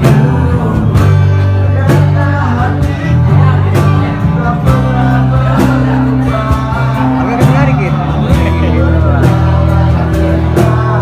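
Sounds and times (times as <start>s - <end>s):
slow romantic song: 0.0s - 11.0s.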